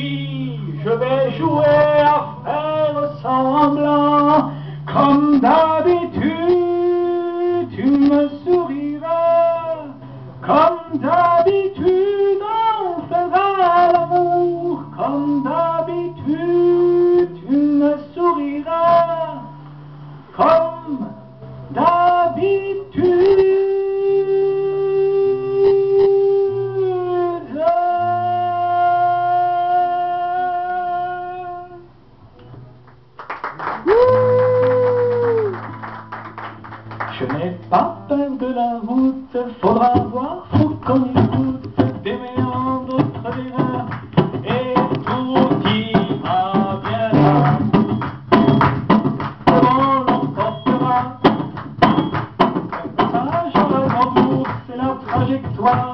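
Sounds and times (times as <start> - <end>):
man singing slowly: 0.0 - 19.6, 20.3 - 32.0, 37.1 - 47.8, 49.4 - 51.6, 52.8 - 55.9
acoustic guitar: 0.0 - 55.9.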